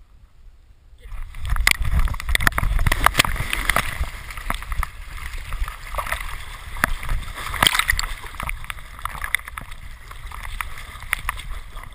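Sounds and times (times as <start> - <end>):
water sloshing and splashing: 1.0 - 11.9.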